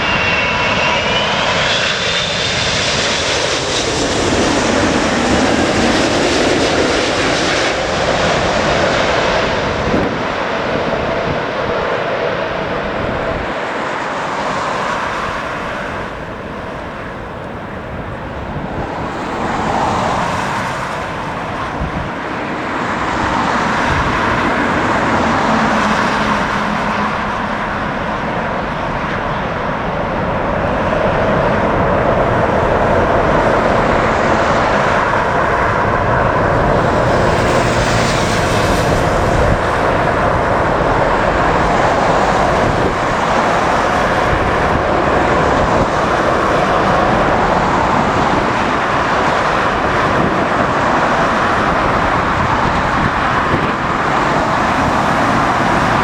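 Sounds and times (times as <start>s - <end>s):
jet airliner engines rushing: 0.0s - 56.0s.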